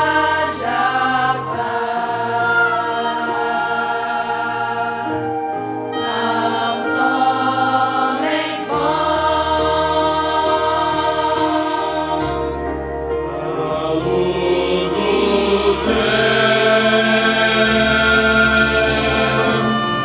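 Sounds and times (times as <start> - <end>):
choir singing with orchestra: 0.0 - 20.0.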